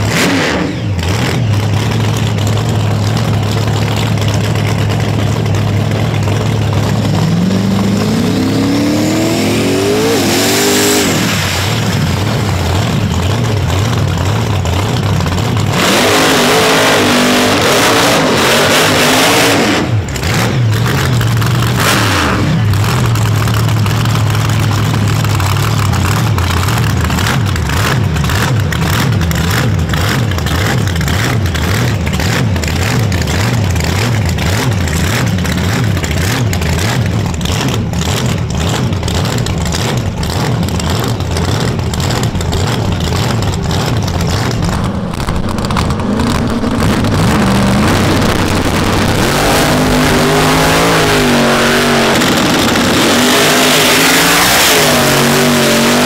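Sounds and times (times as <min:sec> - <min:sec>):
engine idling with uneven lope: 0:00.0 - 0:56.0
race car engine accelerating: 0:00.0 - 0:56.0.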